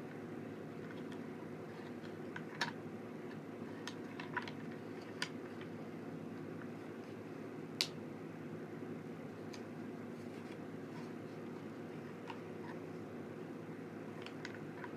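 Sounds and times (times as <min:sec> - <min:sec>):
low background hum: 0:00.0 - 0:14.9.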